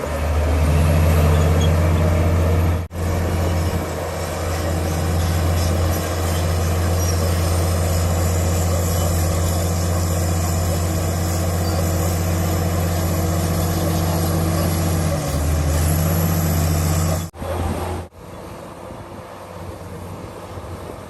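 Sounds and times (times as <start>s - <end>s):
bulldozer diesel engine running: 0.0s - 18.1s.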